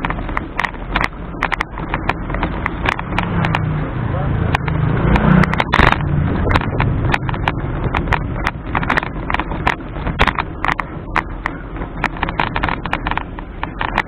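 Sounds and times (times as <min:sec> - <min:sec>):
bicycle rattling on pavement: 0:00.0 - 0:14.0
road and wind noise: 0:00.0 - 0:14.0.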